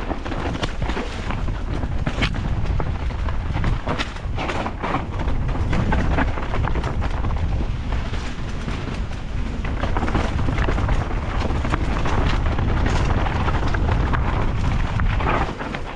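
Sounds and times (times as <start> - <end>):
bike tyres rattling over stones: 0.0 - 15.9
wind buffeting microphone: 0.0 - 15.9.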